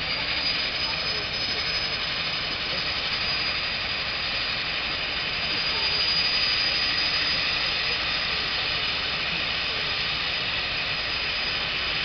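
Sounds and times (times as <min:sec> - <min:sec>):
turboprop engines idling: 0:00.0 - 0:12.0.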